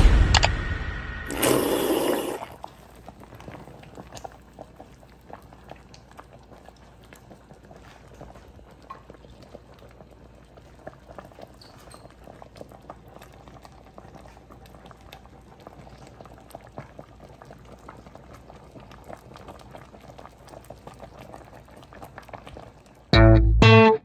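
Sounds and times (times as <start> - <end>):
soup boiling and bubbling: 1.3 - 23.1.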